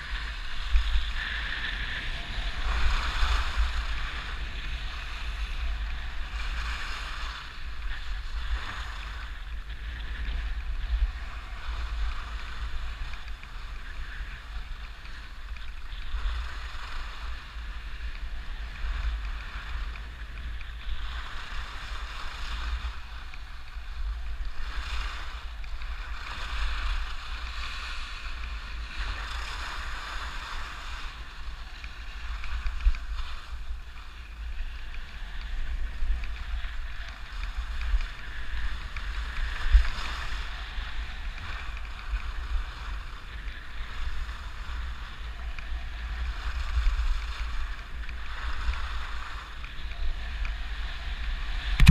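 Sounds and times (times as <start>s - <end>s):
skis carving on snow: 0.0s - 51.9s
wind buffeting microphone: 0.0s - 51.9s.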